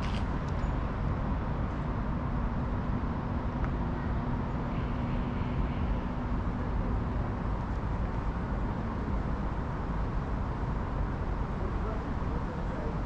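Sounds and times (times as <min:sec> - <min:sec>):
low urban rumble: 0:00.0 - 0:13.0.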